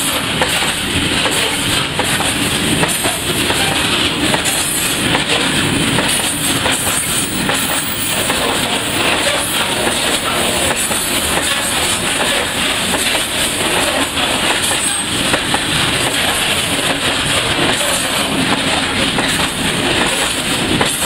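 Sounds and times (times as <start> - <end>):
train wheels rumbling on rails: 0.0 - 21.0
wheels clicking over rail joints: 0.0 - 21.0.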